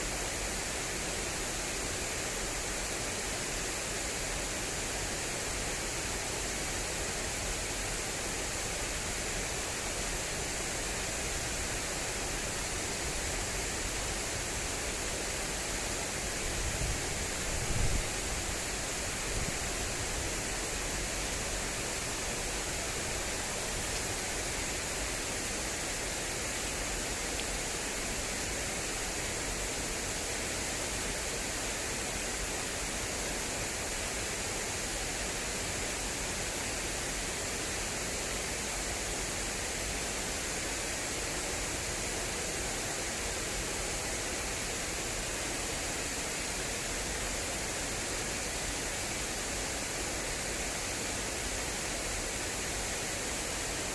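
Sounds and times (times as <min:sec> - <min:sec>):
water rushing along a channel: 0:00.0 - 0:53.9.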